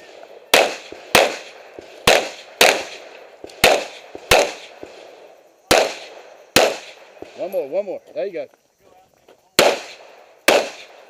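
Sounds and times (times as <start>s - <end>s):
pistol shots: 0.0s - 7.5s, 9.6s - 11.0s.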